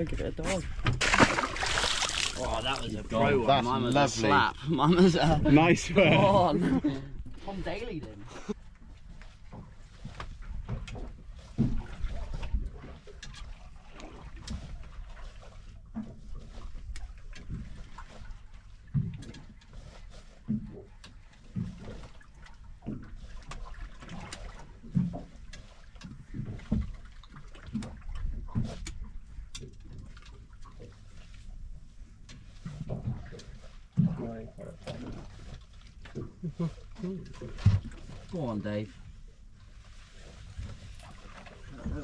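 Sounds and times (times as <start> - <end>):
water slapping boat hull: 0.0 - 42.0.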